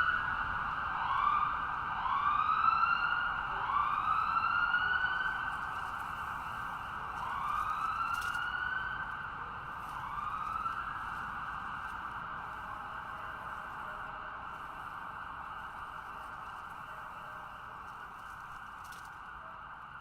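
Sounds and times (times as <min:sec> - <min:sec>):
ambulance siren wailing: 0:00.0 - 0:18.2.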